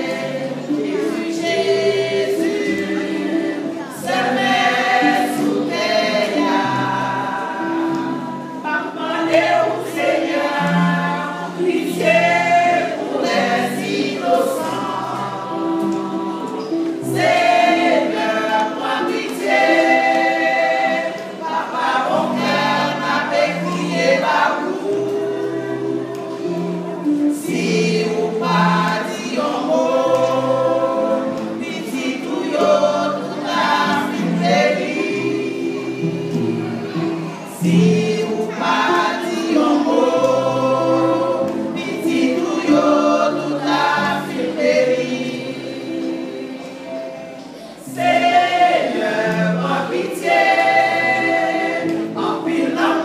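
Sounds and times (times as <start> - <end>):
women's choir singing a hymn: 0.0 - 53.0.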